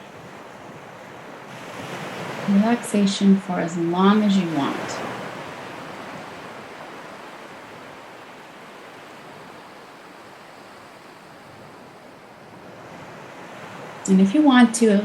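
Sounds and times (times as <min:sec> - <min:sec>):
ocean waves washing: 0:00.0 - 0:15.0.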